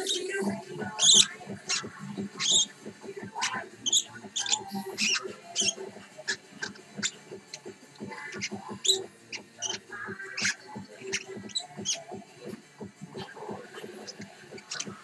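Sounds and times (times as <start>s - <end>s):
lovebird chirping: 0.0s - 12.1s, 13.2s - 15.0s.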